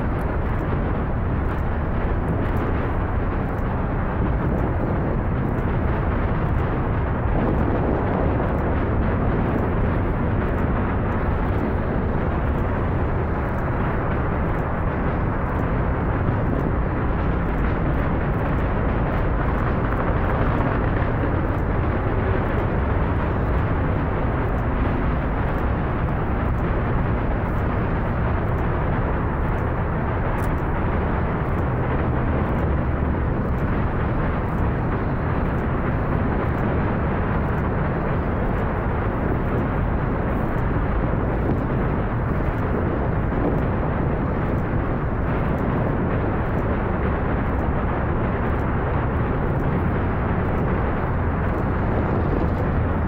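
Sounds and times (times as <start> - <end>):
distant rocket engines rumbling: 0.0 - 53.0.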